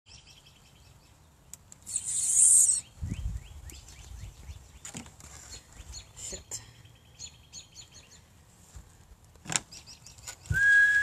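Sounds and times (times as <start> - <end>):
small birds chirping: 0.1 - 10.6.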